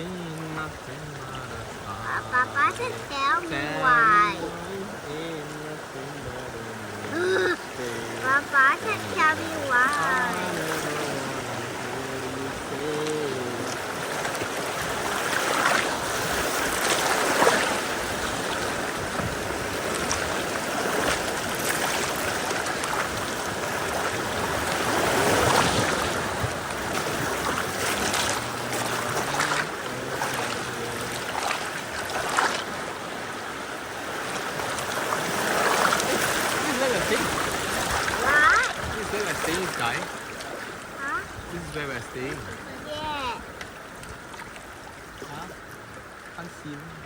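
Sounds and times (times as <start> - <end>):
river water rushing and splashing: 0.0 - 47.0.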